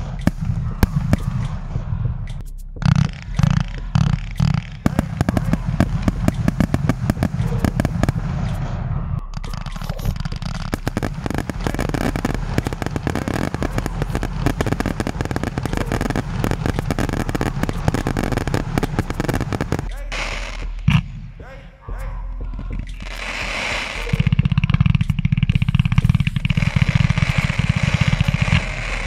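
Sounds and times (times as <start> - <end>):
fireworks cracking and banging: 0.0 - 8.8, 9.4 - 21.3, 22.7 - 29.0.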